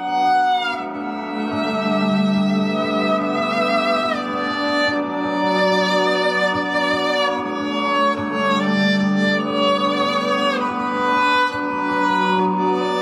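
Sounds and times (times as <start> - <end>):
looped bowed viola notes: 0.0 - 13.0.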